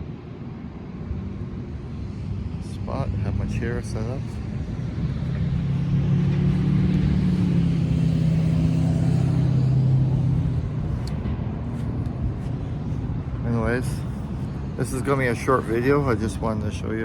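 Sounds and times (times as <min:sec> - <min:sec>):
vehicle engine passing: 0:02.0 - 0:16.9.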